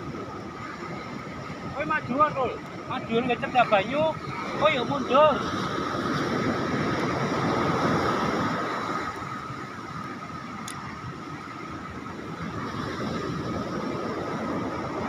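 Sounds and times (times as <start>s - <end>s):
sea noise: 0.0s - 15.0s
wind: 0.0s - 15.0s.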